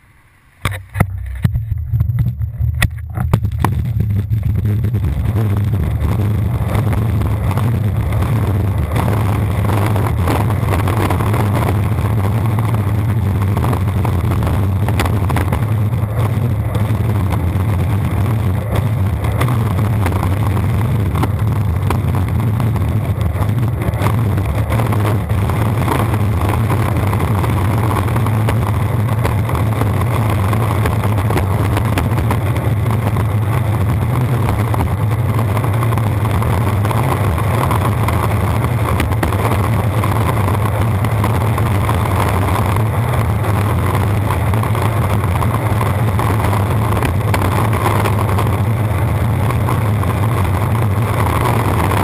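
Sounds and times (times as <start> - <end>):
longboard wheels rumbling on asphalt: 0.0 - 52.0
grit clicks under wheels: 0.6 - 52.0.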